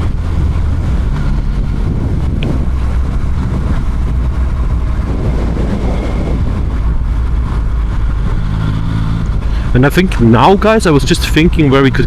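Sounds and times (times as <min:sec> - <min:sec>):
motorcycle engine running: 0:00.0 - 0:10.2
wind rush on microphone: 0:00.0 - 0:12.0.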